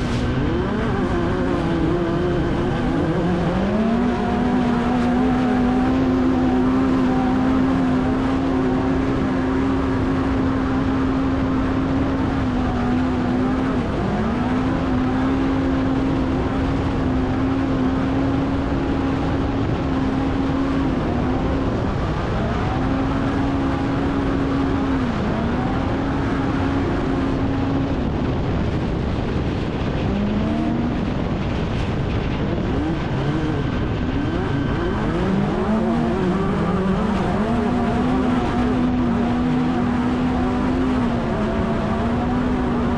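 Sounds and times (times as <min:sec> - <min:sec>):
constant rush of noise: 0:00.0 - 0:42.9
race vehicle engine revving: 0:00.0 - 0:42.9.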